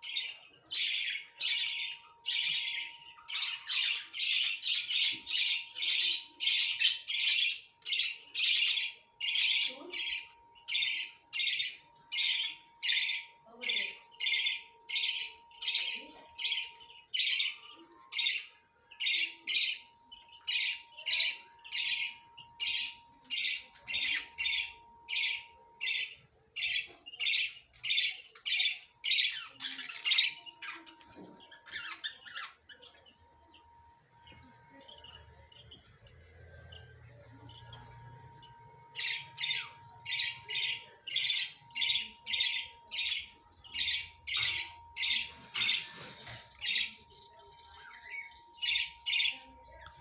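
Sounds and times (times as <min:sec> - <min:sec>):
parrots squawking: 0:00.0 - 0:33.6, 0:34.3 - 0:50.0.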